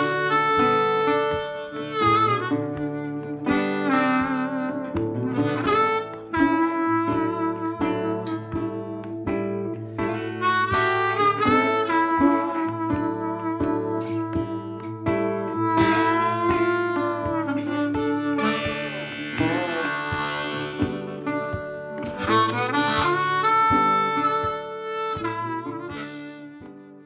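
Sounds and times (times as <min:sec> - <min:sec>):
instrumental tune with steady beat: 0:00.0 - 0:27.0.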